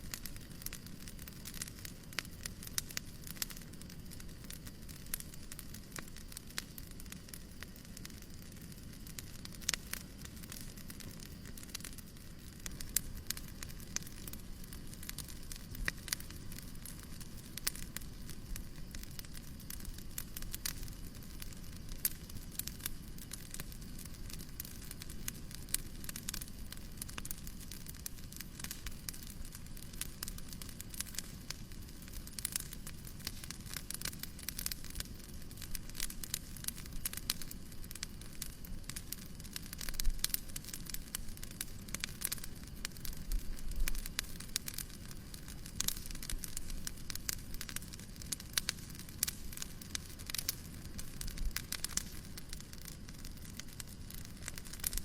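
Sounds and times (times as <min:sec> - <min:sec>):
fireplace crackling: 0:00.0 - 0:55.0.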